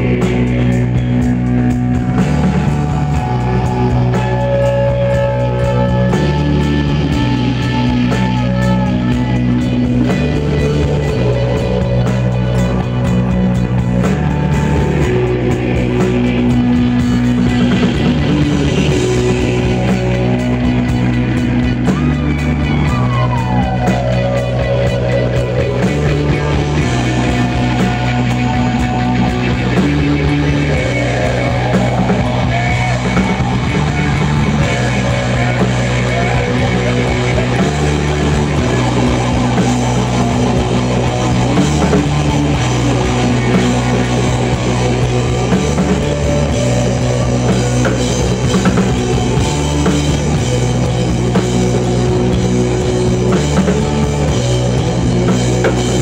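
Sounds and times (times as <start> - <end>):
repeating bass line: 0.0 - 56.0
rock band jamming: 0.0 - 56.0.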